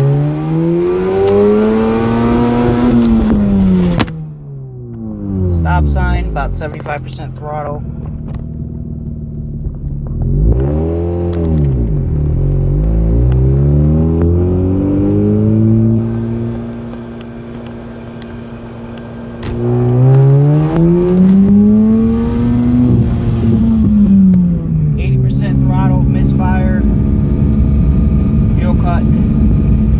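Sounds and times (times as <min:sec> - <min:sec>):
rotary engine revving: 0:00.0 - 0:29.9.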